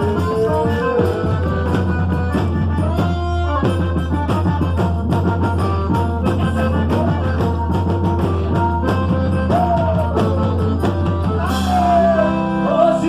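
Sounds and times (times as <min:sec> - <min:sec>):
dance music with drums and bass: 0:00.0 - 0:12.4.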